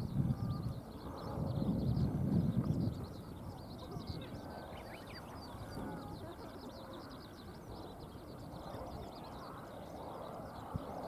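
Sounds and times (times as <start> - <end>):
low rumble of wind or traffic: 0.0 - 11.0
birds chirping: 0.1 - 11.0.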